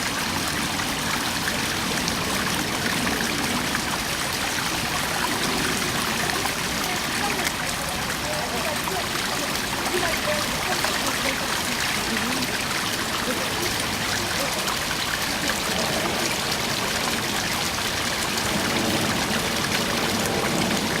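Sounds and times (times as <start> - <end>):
water gurgling: 0.0 - 21.0
waterfall rushing: 0.0 - 21.0.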